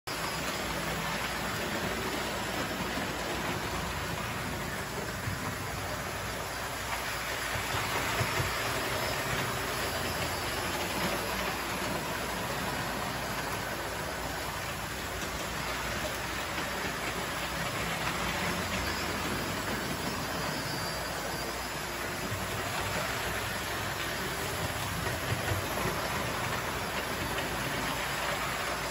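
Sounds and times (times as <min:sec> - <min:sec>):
model trains rolling on track: 0:00.1 - 0:28.9
electric motors: 0:00.2 - 0:28.9.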